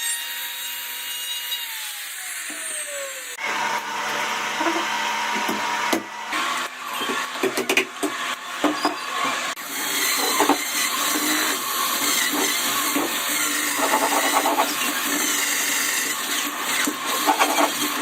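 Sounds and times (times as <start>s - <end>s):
electric power tool running: 0.0s - 18.0s.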